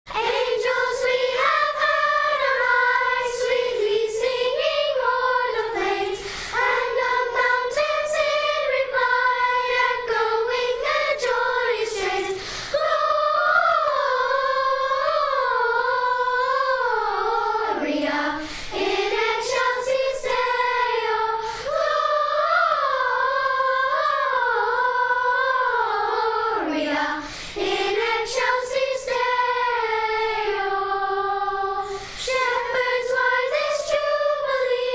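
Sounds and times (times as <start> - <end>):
children's choir singing: 0.1 - 34.9.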